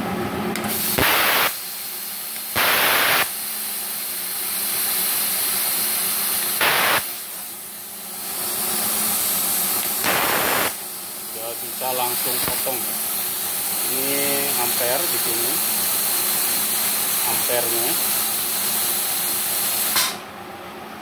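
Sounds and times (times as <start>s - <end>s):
compressed air blasts from torch: 0.6s - 20.2s
steady air hiss: 0.6s - 20.2s.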